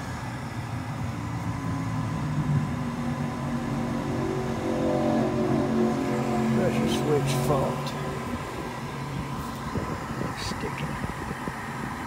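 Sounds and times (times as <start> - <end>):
inducer motor humming: 0.0 - 12.0.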